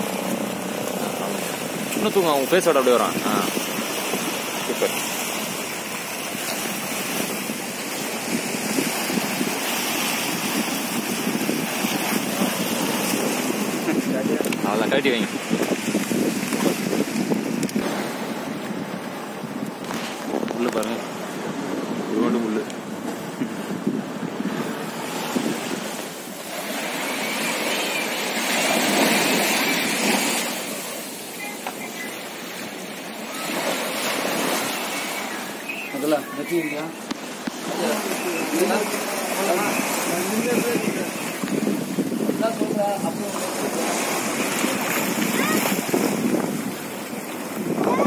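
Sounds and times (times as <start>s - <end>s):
wind buffeting microphone: 0.0s - 31.6s, 32.5s - 48.0s
sea waves washing in: 0.0s - 48.0s
surf breaking over rocks: 0.0s - 48.0s.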